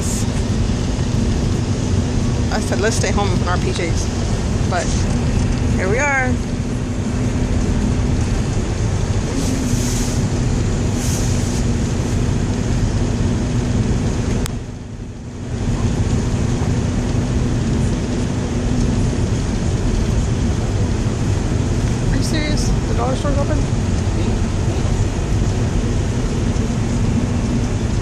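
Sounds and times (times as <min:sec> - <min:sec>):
road and engine noise in truck cab: 0:00.0 - 0:28.0.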